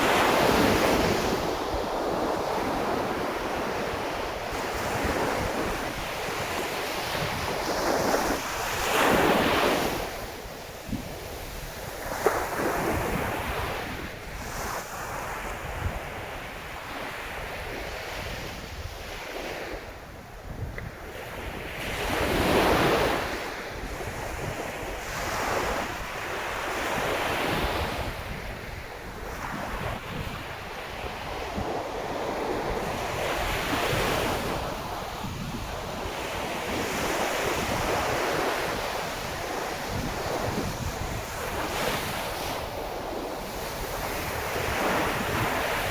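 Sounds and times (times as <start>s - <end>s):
waves washing on shore: 0.0s - 45.9s
wind noise on microphone: 0.0s - 45.9s.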